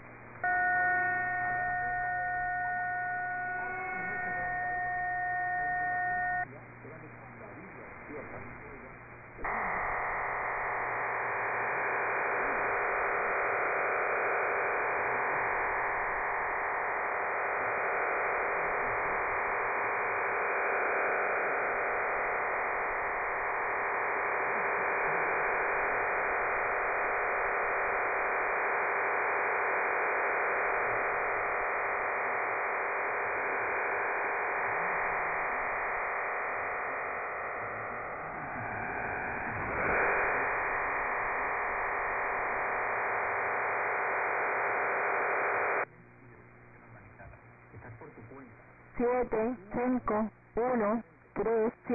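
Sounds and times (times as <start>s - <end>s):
faint steady tone: 0.0s - 51.9s
shortwave radio hiss: 0.0s - 51.9s.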